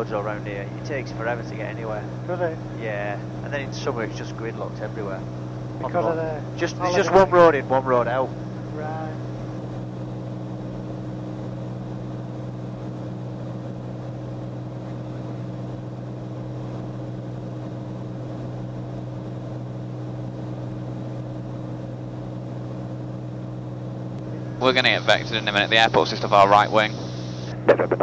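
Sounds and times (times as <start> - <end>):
aircraft cabin engine drone: 0.0 - 28.0.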